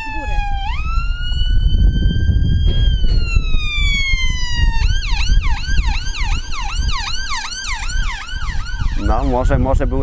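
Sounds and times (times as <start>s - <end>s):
ambulance siren: 0.0s - 10.0s.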